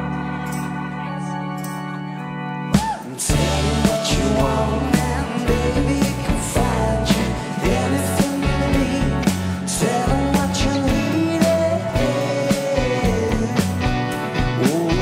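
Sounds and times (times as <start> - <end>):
live rock band playing: 0.0 - 15.0
person singing: 0.0 - 15.0.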